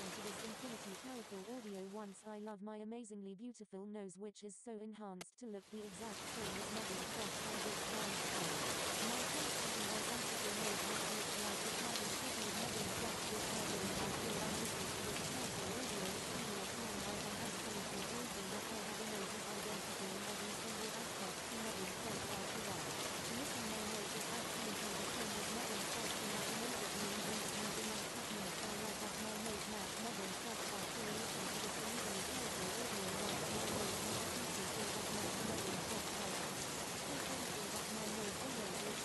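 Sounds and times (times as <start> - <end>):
rain hissing: 6.0 - 39.0.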